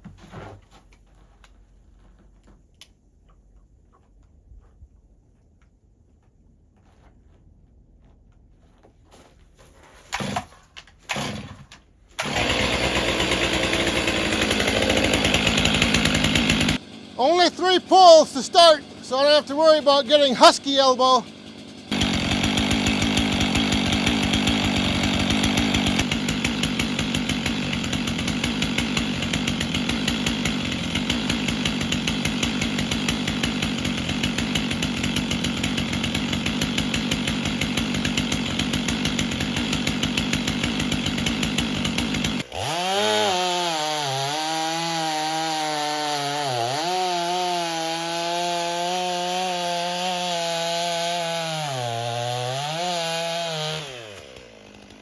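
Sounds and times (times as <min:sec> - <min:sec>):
chainsaw cutting logs: 0:10.0 - 0:55.0.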